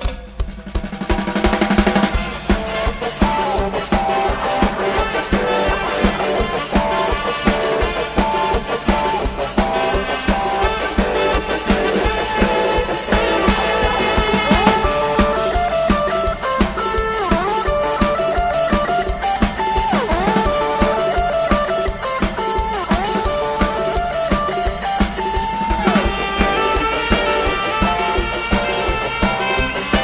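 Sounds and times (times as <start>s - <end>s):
drum kit beat: 0.0s - 30.0s
live band playing: 0.0s - 30.0s.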